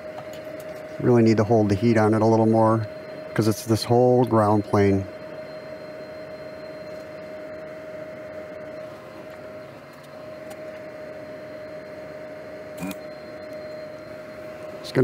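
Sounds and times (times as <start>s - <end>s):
machine whine: 0.0s - 15.0s.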